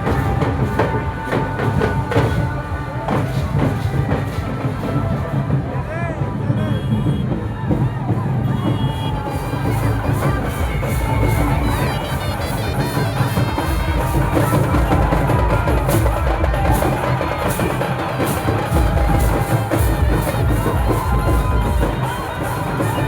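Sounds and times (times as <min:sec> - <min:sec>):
heavy drum beats: 0:00.0 - 0:23.0.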